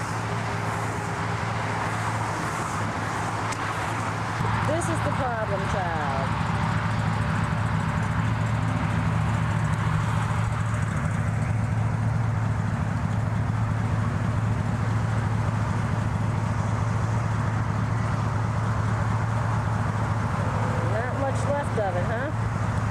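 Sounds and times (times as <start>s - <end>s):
low engine drone: 0.0s - 22.9s
road noise hiss: 0.0s - 22.9s.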